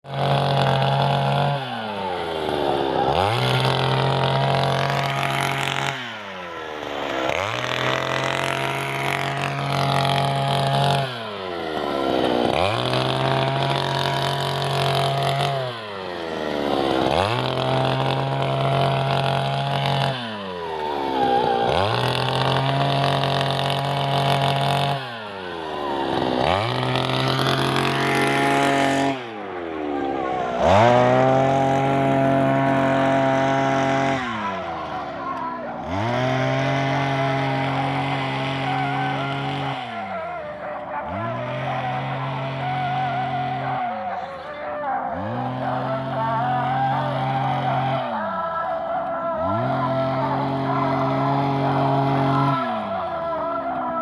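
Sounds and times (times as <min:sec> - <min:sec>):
earth auger engine drilling: 0:00.0 - 0:54.0.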